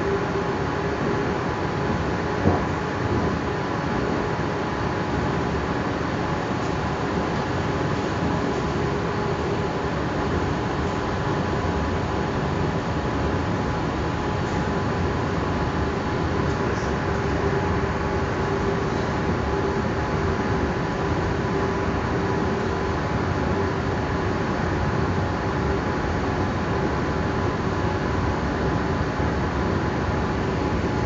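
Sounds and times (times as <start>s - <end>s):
train rumbling inside carriage: 0.0s - 31.0s.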